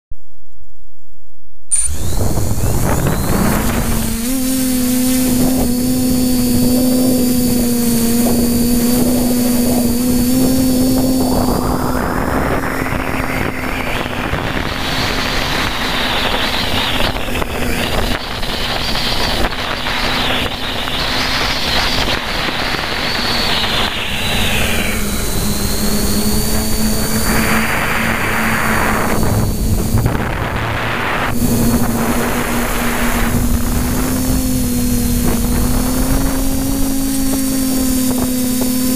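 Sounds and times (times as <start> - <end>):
quadcopter motors whining: 1.7 - 38.9
wind on microphone: 1.9 - 38.9.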